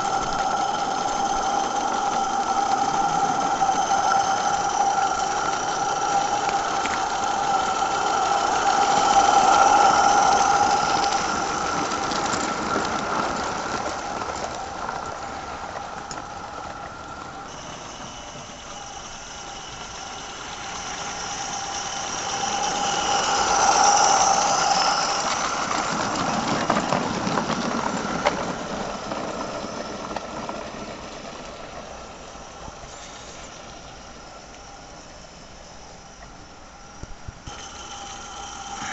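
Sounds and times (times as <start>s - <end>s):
steady high tone: 0.0s - 30.0s, 32.1s - 38.9s
model steam locomotive running: 0.0s - 38.9s.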